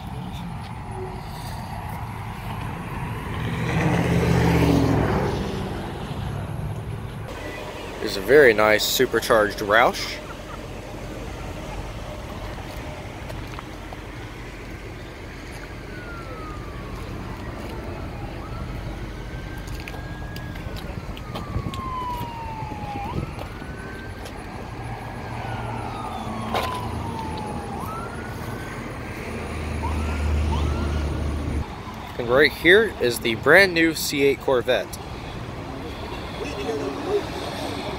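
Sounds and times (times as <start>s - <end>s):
emergency siren wailing: 0.2s - 37.9s.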